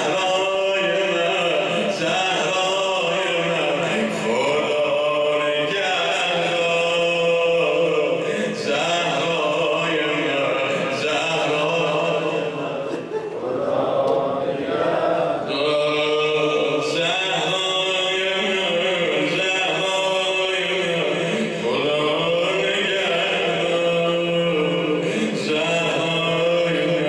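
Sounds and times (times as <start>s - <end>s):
man chanting: 0.0s - 12.8s, 15.4s - 27.0s.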